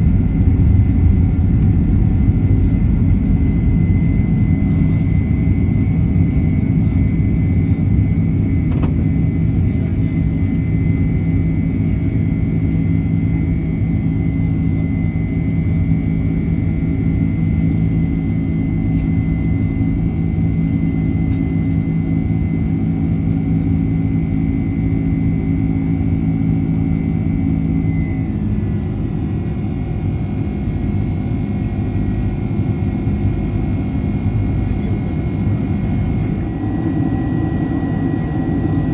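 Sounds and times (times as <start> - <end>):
jet engine cabin rumble: 0.0 - 38.9
jet engine whine: 0.0 - 38.9.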